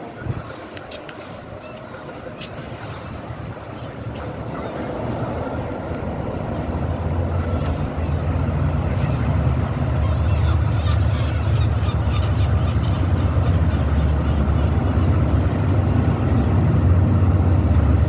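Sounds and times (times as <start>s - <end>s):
diesel train engine rumble: 0.0s - 18.0s.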